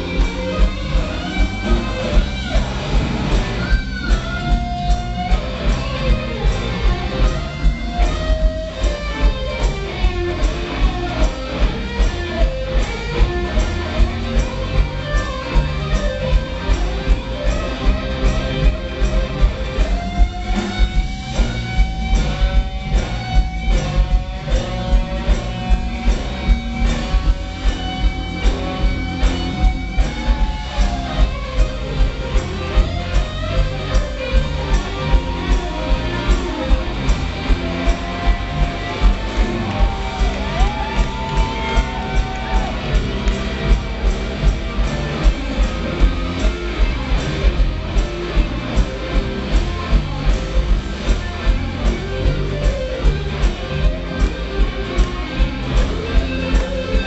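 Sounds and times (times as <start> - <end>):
electric guitar soloing: 0.0 - 57.0
steady drum beat: 0.0 - 57.0.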